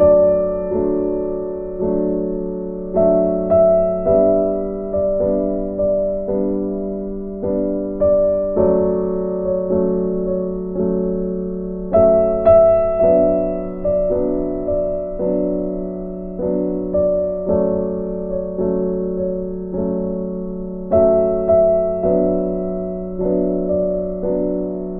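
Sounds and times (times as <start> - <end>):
slow gentle piano music: 0.0 - 24.9.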